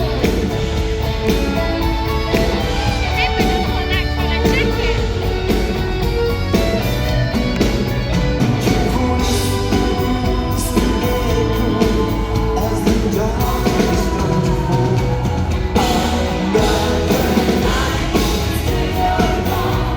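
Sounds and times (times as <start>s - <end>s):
live pop-rock band playing: 0.0s - 19.9s
male lead singer: 0.0s - 19.9s.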